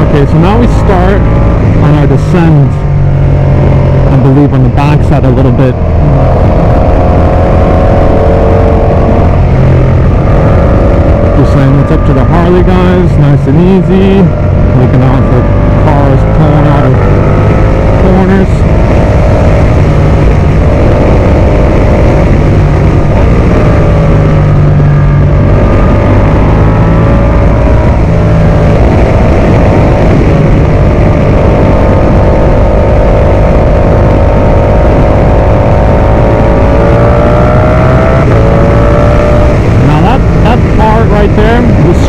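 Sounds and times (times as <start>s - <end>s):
motorcycle engine running: 0.0s - 42.0s
wind rush on microphone: 0.0s - 42.0s.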